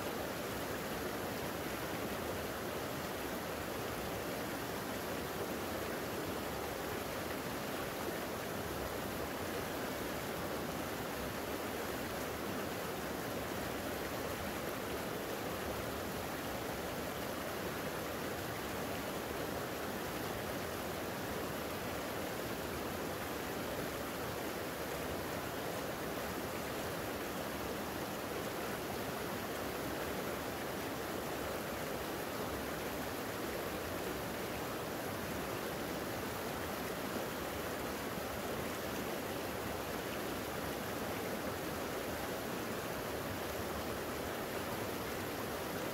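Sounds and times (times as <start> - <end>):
creek water flowing: 0.0 - 45.9.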